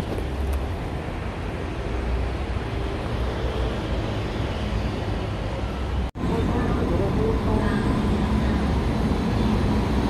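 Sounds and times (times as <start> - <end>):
metro train rumbling: 0.0 - 10.0.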